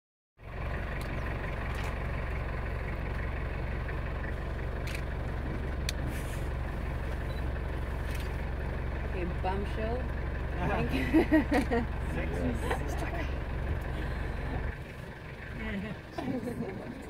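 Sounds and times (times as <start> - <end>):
vehicle engine idling: 0.4 - 17.0.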